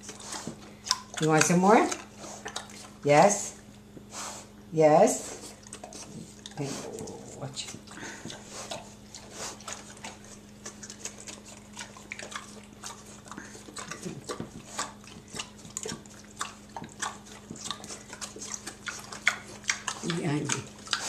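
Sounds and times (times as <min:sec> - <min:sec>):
pigs chomping wetly: 0:00.0 - 0:04.3, 0:05.2 - 0:21.0.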